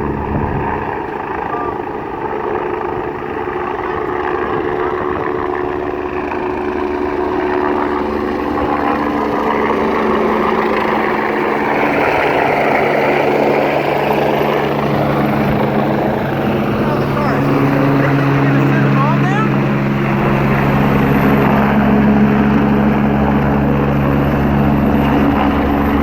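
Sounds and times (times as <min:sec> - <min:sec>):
helicopter engine and rotor: 0:00.0 - 0:26.0.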